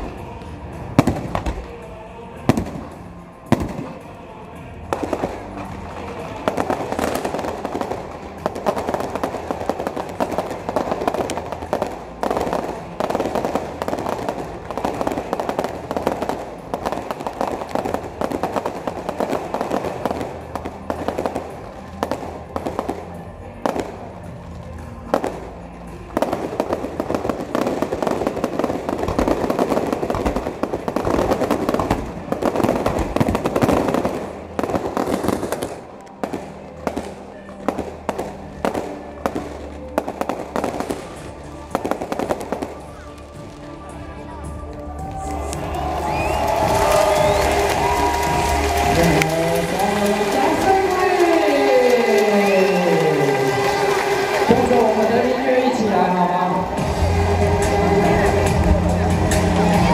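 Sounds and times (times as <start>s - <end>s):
crackling firework bursts: 0.0s - 59.9s
fireworks bangs: 0.0s - 59.9s
music: 0.0s - 59.9s.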